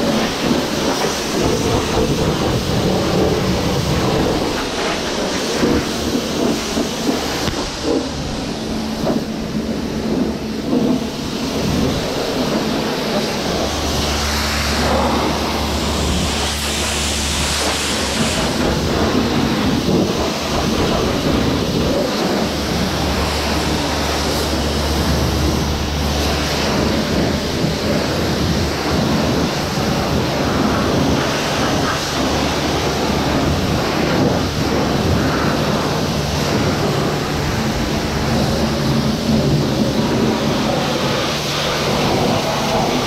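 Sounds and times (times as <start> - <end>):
low hum: 0.0 - 43.0
pressure washer spraying water: 0.0 - 43.0.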